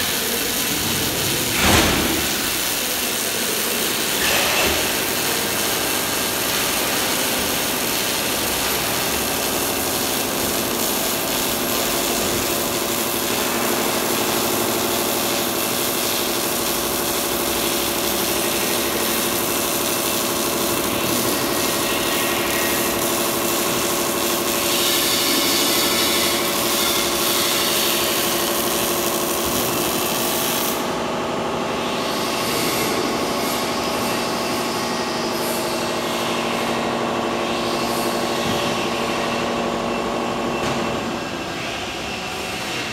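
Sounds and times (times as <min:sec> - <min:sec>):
welding arc crackling and hissing: 0:00.0 - 0:38.4.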